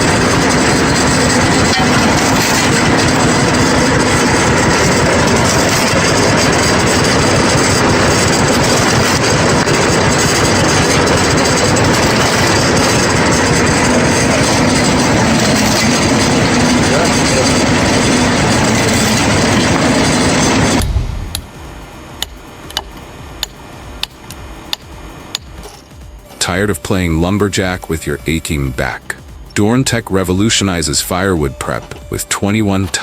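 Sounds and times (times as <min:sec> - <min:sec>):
branch shredder running: 0:00.0 - 0:33.0.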